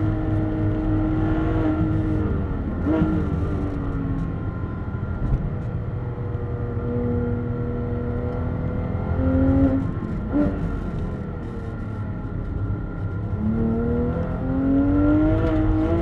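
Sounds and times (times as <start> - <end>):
tyre and road noise: 0.0 - 6.4, 7.8 - 16.0.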